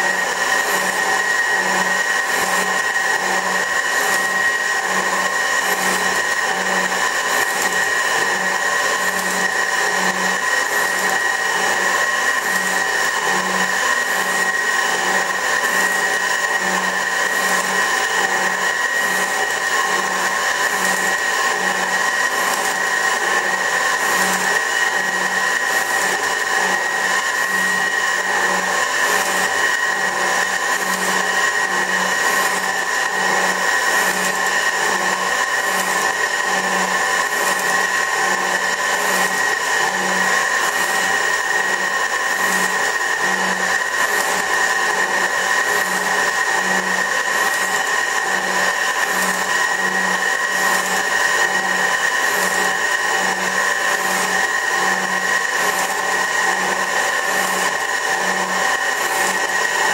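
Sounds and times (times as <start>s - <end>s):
metal shaper whining with pulse: 0.0s - 59.9s.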